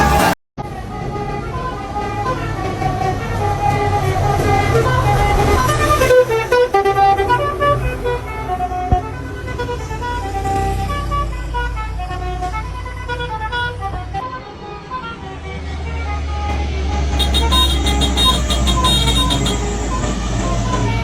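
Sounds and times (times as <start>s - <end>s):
low engine rumble: 0.0s - 21.0s
musical truck horn melody: 0.0s - 21.0s.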